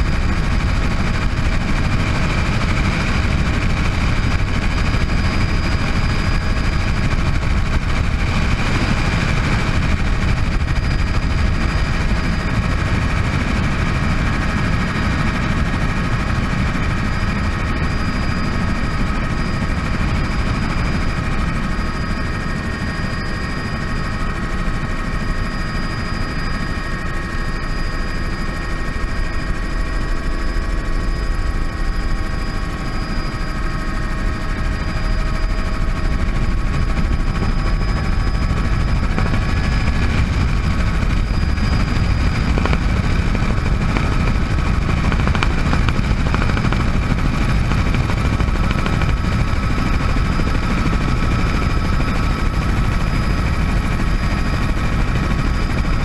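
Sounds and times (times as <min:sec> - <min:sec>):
rotor and engine rumble: 0:00.0 - 0:25.6, 0:26.2 - 0:56.0
helicopter turbine whine: 0:00.0 - 0:56.0.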